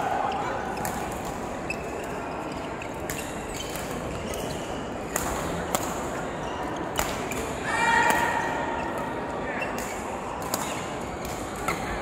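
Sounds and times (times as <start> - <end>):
sports hall background noise: 0.0 - 12.0.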